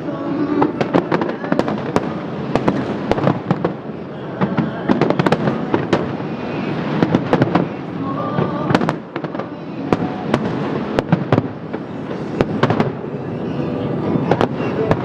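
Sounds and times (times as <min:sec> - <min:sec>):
fireworks sharp bangs: 0:00.0 - 0:15.0.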